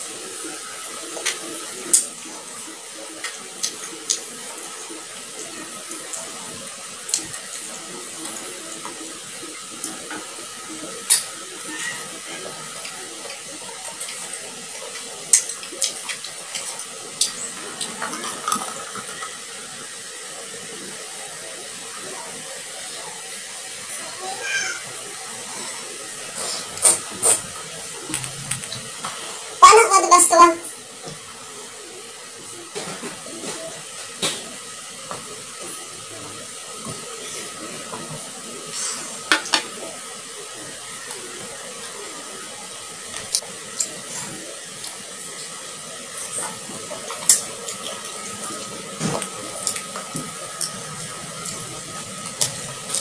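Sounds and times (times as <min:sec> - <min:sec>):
soda pouring and fizzing: 0:00.0 - 0:53.0.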